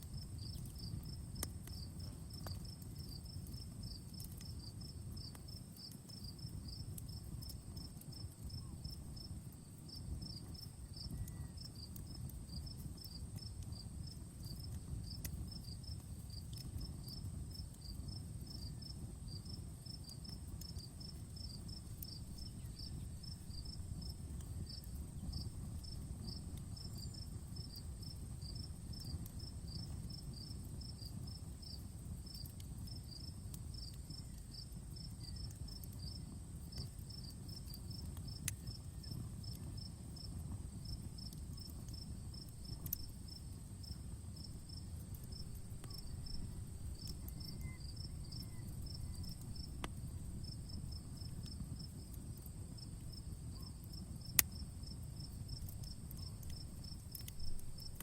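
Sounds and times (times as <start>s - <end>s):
cricket chirping: 0.0s - 58.0s
wood fire crackling and popping: 0.0s - 58.0s.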